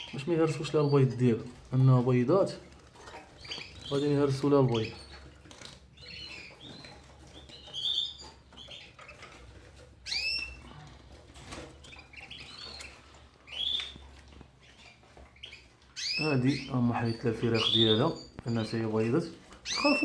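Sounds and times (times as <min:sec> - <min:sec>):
canaries chirping: 0:00.0 - 0:20.0.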